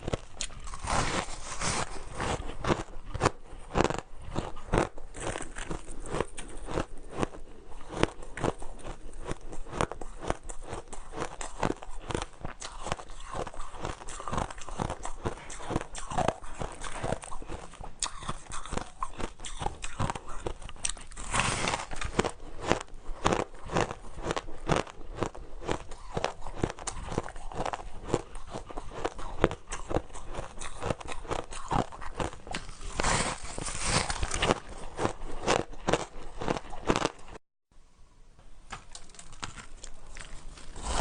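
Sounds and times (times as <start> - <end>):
crunching shaved ice: 0.0 - 37.4, 38.9 - 41.0.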